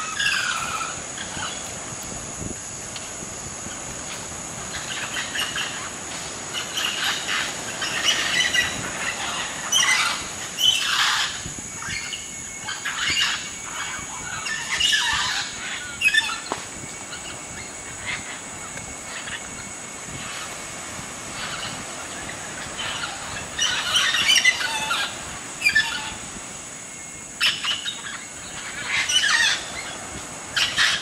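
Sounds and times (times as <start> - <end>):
macaws squawking: 0.0 - 1.7, 4.7 - 19.5, 21.3 - 26.4, 27.4 - 31.0.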